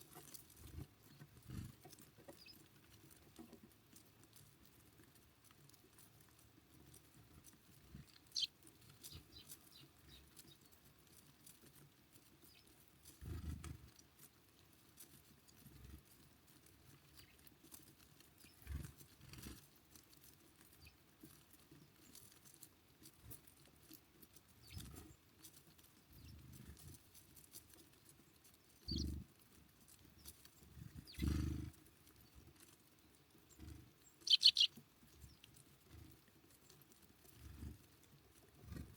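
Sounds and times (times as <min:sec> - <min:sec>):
small birds chirping: 0:00.0 - 0:04.8, 0:05.4 - 0:38.9
birds landing and pecking: 0:00.0 - 0:38.9.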